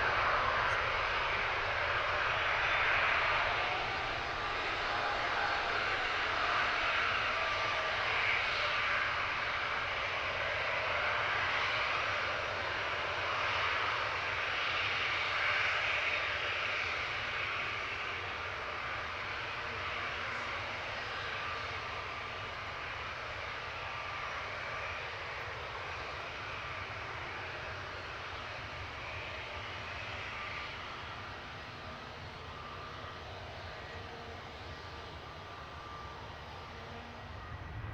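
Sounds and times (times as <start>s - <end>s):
airliner engines rushing: 0.0s - 37.9s.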